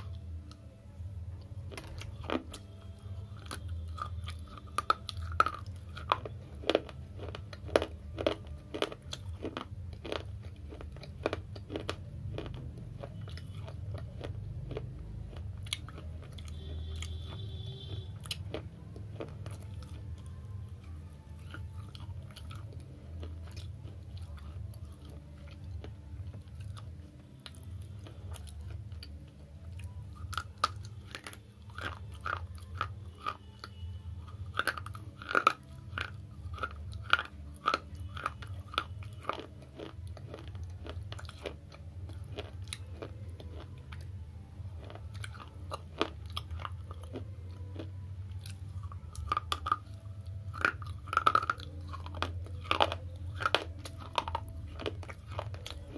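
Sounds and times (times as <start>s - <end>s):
slate chips crunched and chewed: 1.3s - 55.9s.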